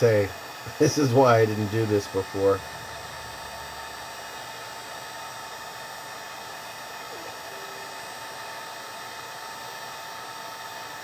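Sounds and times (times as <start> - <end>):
heat gun blowing hot air: 0.0 - 11.0.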